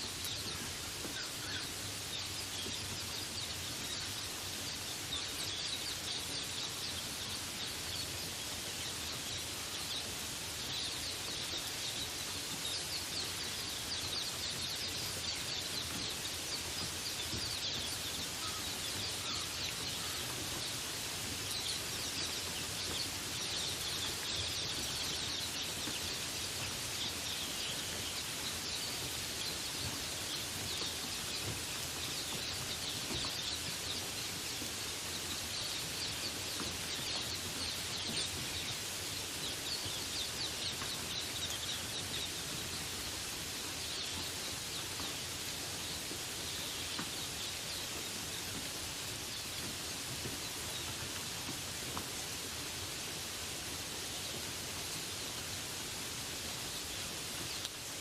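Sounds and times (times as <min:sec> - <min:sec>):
birds chirping: 0:00.0 - 0:58.0
rain falling: 0:00.0 - 0:58.0.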